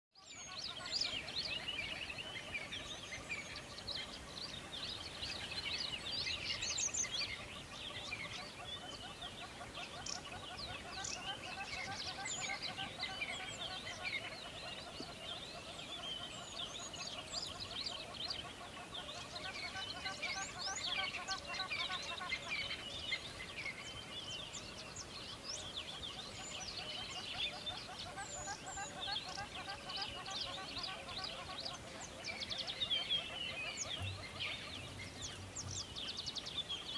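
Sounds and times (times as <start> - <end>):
small birds chirping: 0.1 - 36.9.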